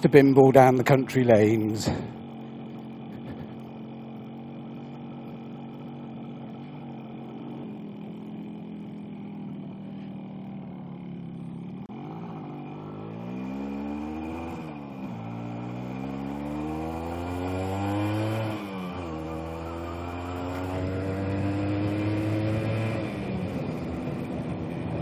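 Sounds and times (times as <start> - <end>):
two-stroke motorcycle engine: 0.0 - 25.0.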